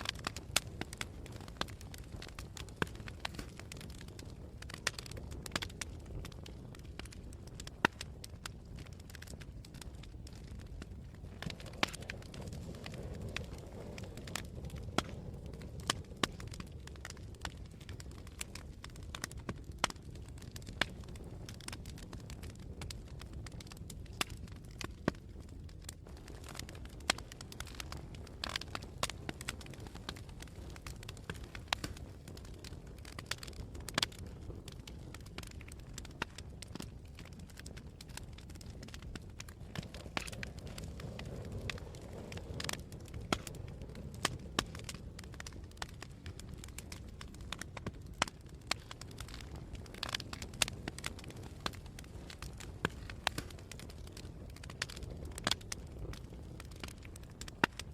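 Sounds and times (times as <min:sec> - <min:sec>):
campfire crackling and popping: 0:00.0 - 0:57.9
low wind rumble: 0:00.0 - 0:57.9.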